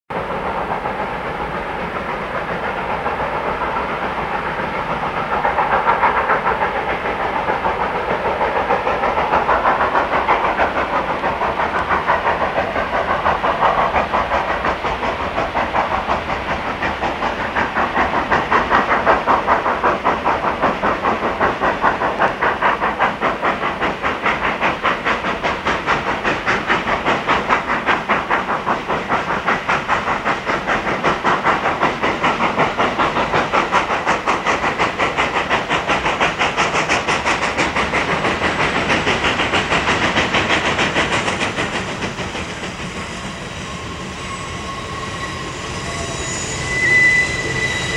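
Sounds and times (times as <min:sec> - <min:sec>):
hiss of steam: 0:00.1 - 0:47.9
steam locomotive chuffing: 0:00.1 - 0:47.9.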